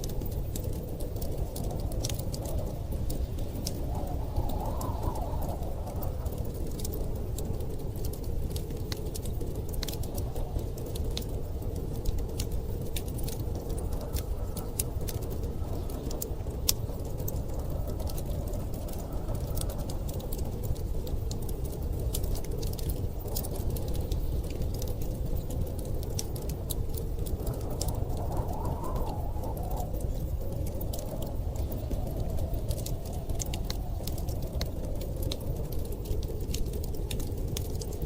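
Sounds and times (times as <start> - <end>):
fire popping and snapping: 0.0 - 38.0
storm wind rushing: 0.0 - 38.0
wood fire crackling: 0.0 - 38.0.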